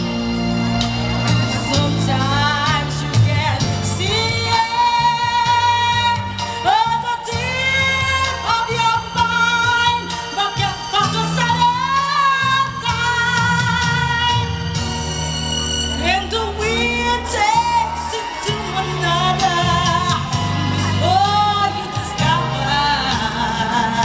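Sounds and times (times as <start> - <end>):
backing track: 0.0 - 24.0
woman singing: 1.6 - 14.7, 16.0 - 24.0.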